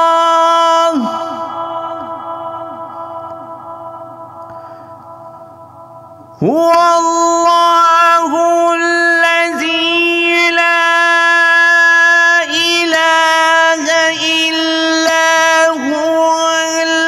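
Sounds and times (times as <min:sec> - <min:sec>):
man chanting melodically: 0:00.0 - 0:04.2, 0:06.4 - 0:17.0.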